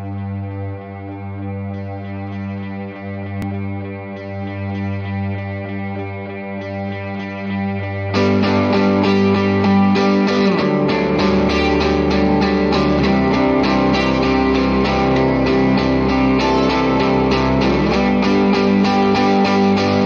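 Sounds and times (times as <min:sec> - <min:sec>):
guitar-led music with beat: 0:00.0 - 0:20.0.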